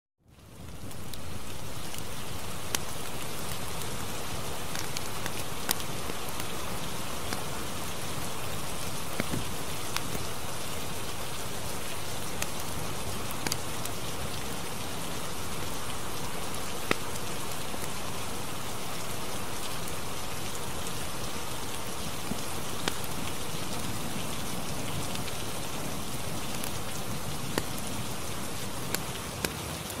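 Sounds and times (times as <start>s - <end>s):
steady rain hiss: 0.3s - 30.0s.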